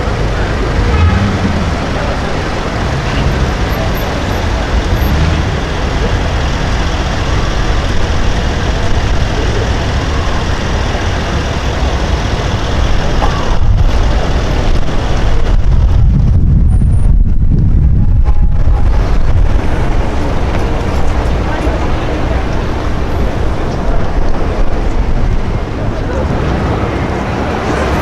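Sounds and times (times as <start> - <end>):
low engine rumble: 0.0 - 28.0
street traffic noise: 0.0 - 28.0.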